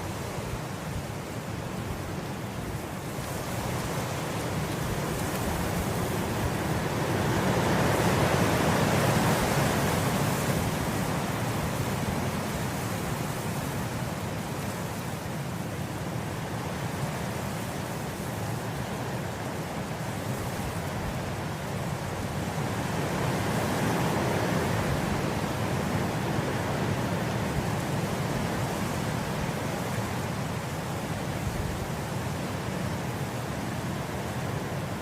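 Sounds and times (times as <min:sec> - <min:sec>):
wind blowing through grass: 0:00.0 - 0:35.0.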